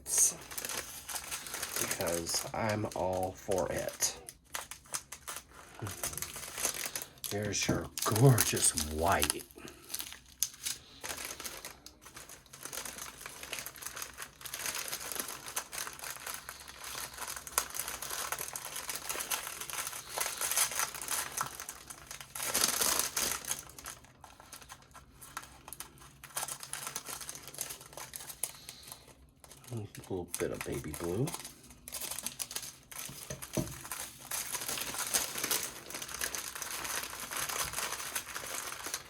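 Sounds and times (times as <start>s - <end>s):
plastic packaging crinkling: 0.0s - 39.0s.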